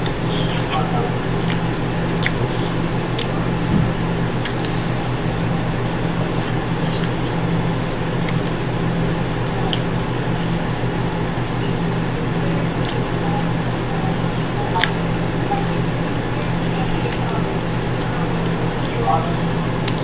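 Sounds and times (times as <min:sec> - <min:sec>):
low hum and hiss: 0:00.0 - 0:20.0
person chewing: 0:01.3 - 0:18.9
wet mouth clicks: 0:01.4 - 0:18.8, 0:19.8 - 0:20.0.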